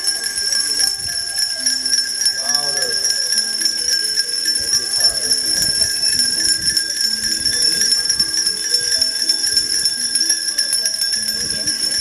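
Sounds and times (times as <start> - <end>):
hand bells ringing: 0.0 - 12.0.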